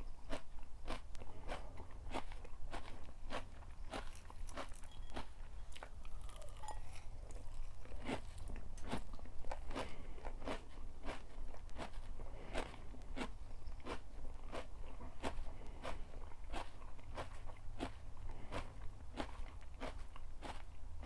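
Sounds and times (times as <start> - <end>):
crunchy food chewing: 0.0 - 21.0.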